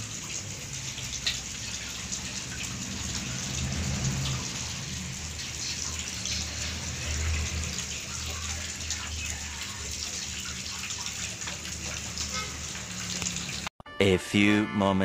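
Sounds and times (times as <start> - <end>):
water running: 0.0 - 13.7.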